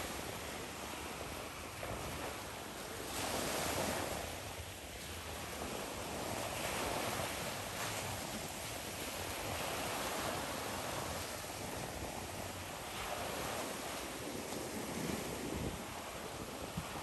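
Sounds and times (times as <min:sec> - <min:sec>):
small waves breaking: 0:00.0 - 0:17.0.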